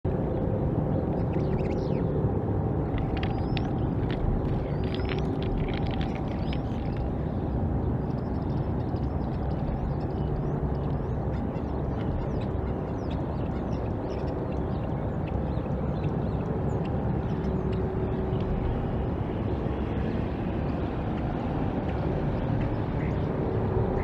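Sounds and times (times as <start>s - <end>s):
faint hum: 0.1s - 24.0s
low rumble: 0.1s - 24.0s.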